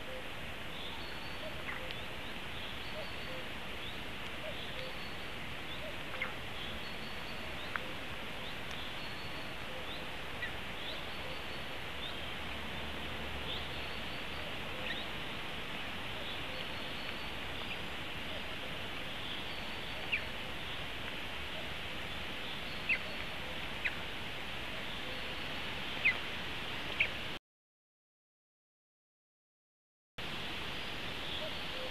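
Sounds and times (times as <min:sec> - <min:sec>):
small birds chirping: 0:00.0 - 0:26.3, 0:26.9 - 0:27.2
steady hiss: 0:00.0 - 0:27.4, 0:30.2 - 0:31.9.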